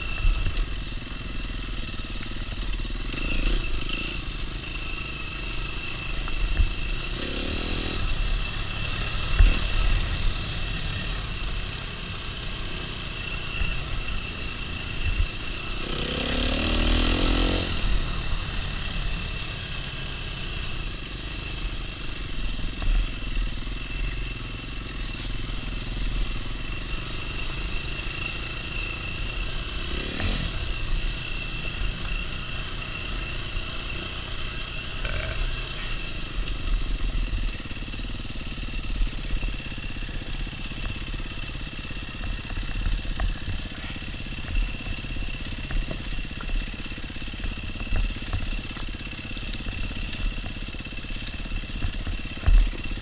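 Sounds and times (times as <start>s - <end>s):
dirt bike engine revving: 0.0s - 20.9s, 25.0s - 53.0s.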